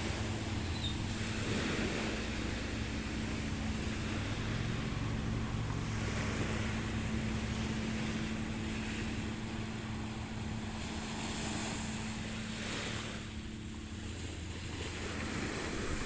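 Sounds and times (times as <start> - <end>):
boat engine droning: 0.0 - 16.0
wind and water noise: 0.0 - 16.0.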